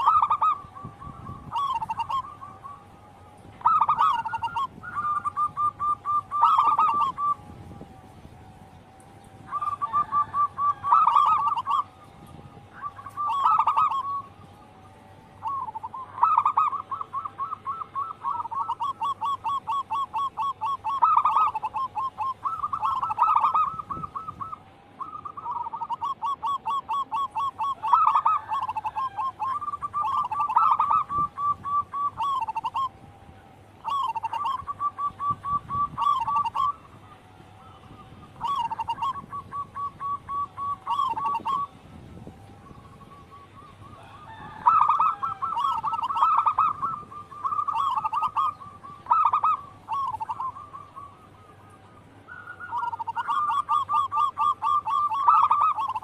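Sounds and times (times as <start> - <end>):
doves cooing: 0.0 - 56.0.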